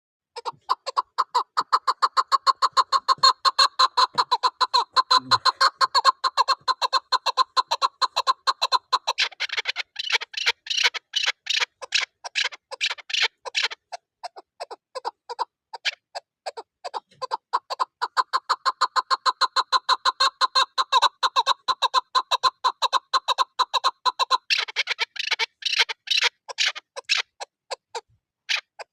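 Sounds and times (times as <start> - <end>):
partridge calling: 0.4 - 16.0, 16.9 - 28.9.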